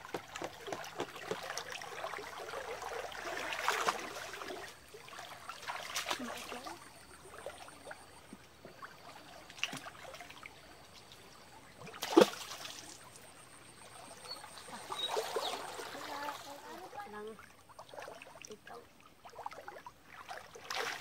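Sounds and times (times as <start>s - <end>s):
legs wading through shallow stream: 0.0s - 21.0s.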